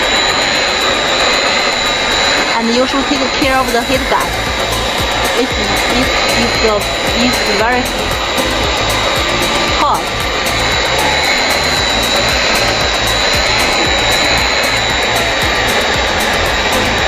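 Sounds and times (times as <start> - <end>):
hot air welding machine hissing: 0.0 - 17.0.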